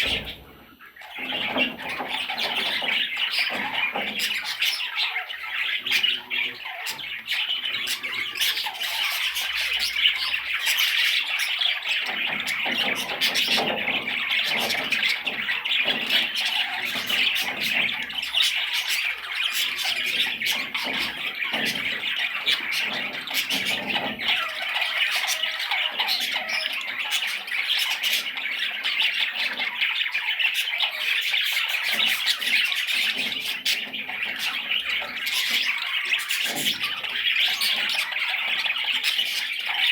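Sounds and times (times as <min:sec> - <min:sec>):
budgerigar chattering: 0:00.0 - 0:39.9.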